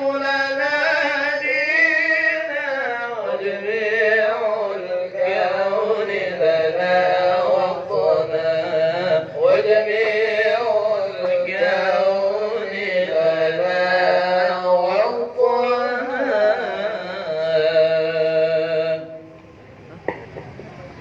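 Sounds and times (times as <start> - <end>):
man chanting melodic recitation: 0.0 - 19.4.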